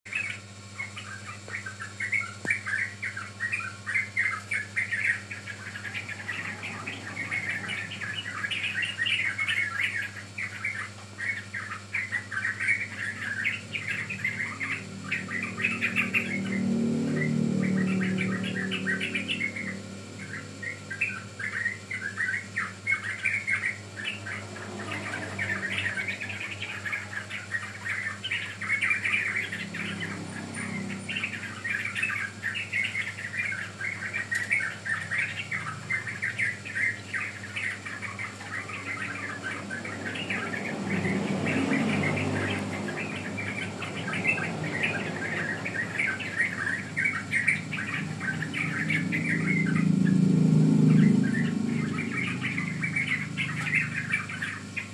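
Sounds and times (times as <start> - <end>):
young birds chirping: 0.0 - 54.9.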